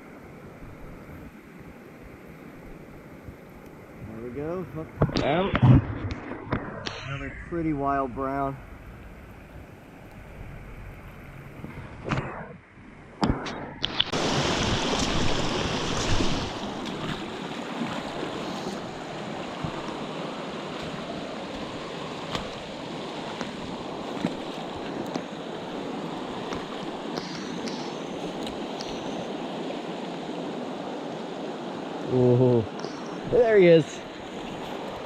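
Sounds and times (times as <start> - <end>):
stream water rushing: 0.0 - 12.2, 12.8 - 35.0.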